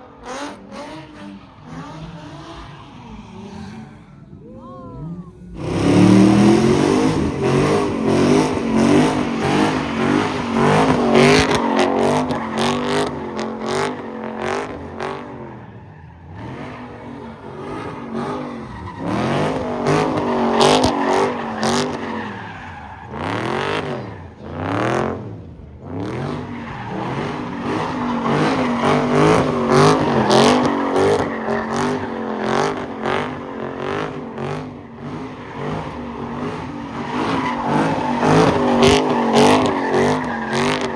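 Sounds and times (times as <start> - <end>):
tire squeal: 0.0 - 25.0, 25.9 - 40.9
car engine revving: 5.1 - 40.9.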